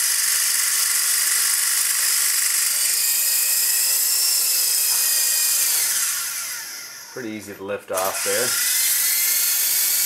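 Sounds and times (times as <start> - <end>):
toy helicopter rotors whirring: 0.0 - 10.0.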